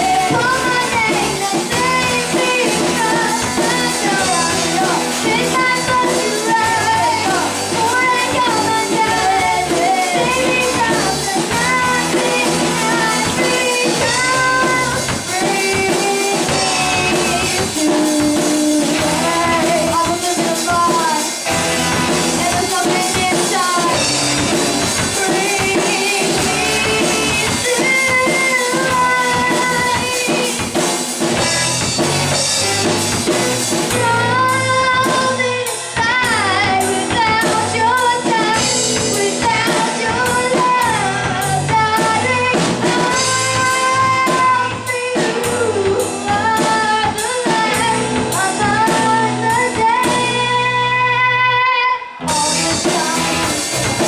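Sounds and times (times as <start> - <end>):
bass guitar: 0.0 - 54.0
drum kit: 0.0 - 54.0
electric guitar: 0.0 - 54.0
female lead vocal: 0.0 - 54.0
keyboard: 0.0 - 54.0.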